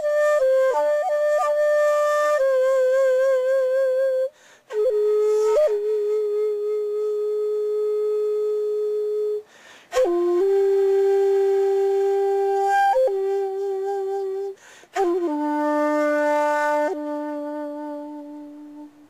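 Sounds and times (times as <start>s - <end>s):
shakuhachi long held notes: 0.0s - 19.0s.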